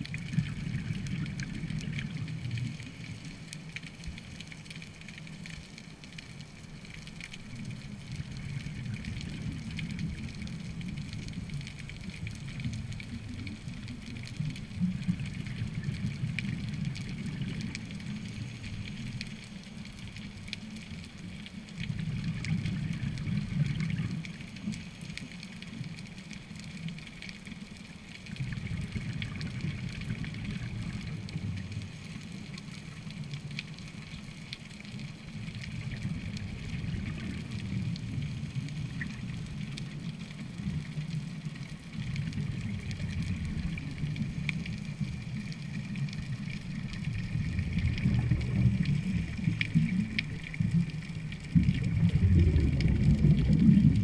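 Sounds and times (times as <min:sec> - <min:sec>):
faint crackling clicks: 0:00.0 - 0:54.0
low fluctuating underwater rumble: 0:00.0 - 0:54.0.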